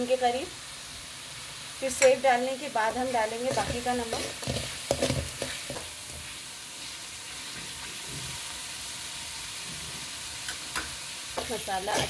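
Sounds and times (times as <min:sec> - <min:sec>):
sauce sizzling in oil: 0:00.0 - 0:12.0.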